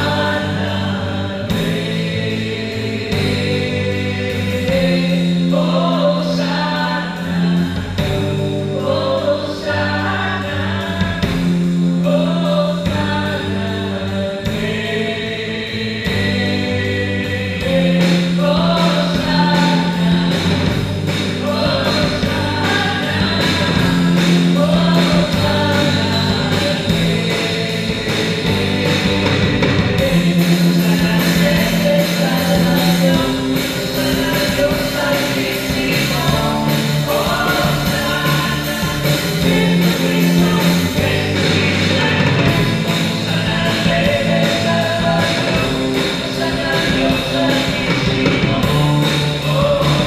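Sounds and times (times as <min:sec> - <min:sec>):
bass guitar: 0:00.0 - 0:50.0
drum kit: 0:00.0 - 0:50.0
electric guitars: 0:00.0 - 0:50.0
several people singing together: 0:00.0 - 0:50.0.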